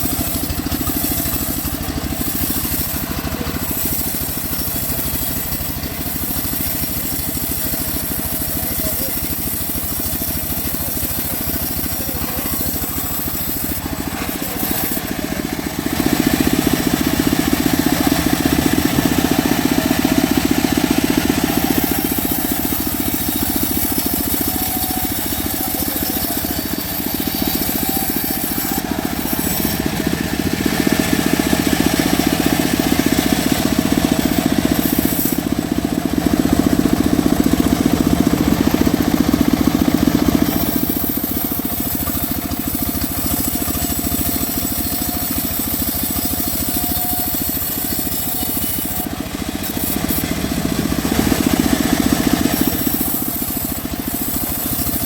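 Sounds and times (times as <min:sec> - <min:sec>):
bandsaw mill sawing wood: 0:00.0 - 0:55.0.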